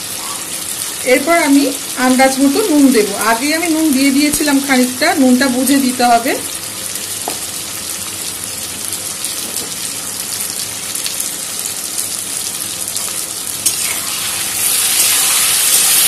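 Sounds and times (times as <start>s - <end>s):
potatoes sizzling in hot oil: 0.0s - 16.0s.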